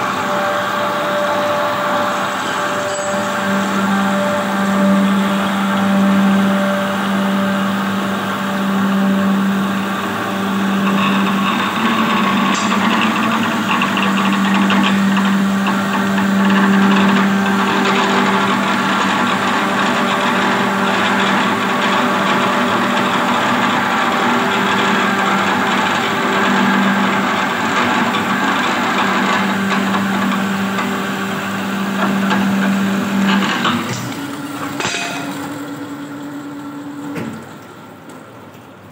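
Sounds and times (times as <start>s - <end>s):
band saw motor hum: 0.0s - 37.2s.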